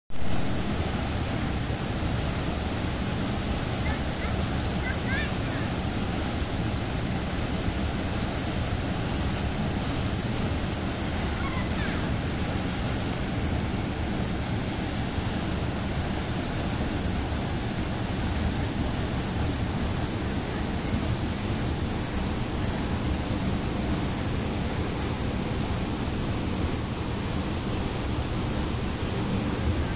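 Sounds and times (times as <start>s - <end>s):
waterfall rushing into pool: 0.1s - 29.9s.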